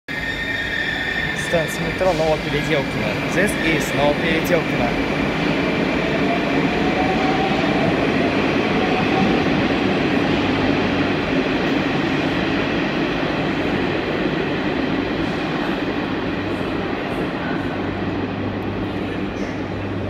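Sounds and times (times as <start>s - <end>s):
metro train rumbling: 0.1s - 20.0s.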